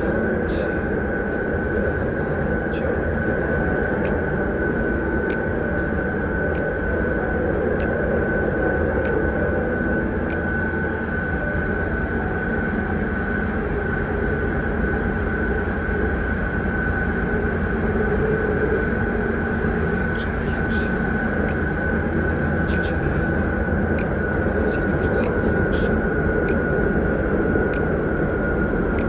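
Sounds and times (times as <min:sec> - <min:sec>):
metro train rumble and whine: 0:00.0 - 0:29.0.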